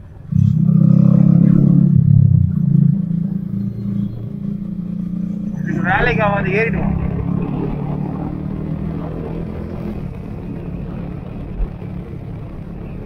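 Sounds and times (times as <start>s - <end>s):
road noise: 0.0s - 13.0s
motorcycle engine running steadily: 1.4s - 13.0s.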